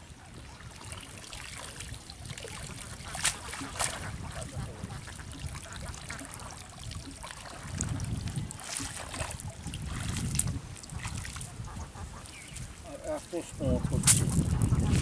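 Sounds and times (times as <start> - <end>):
water sloshing around legs: 0.3 - 15.0.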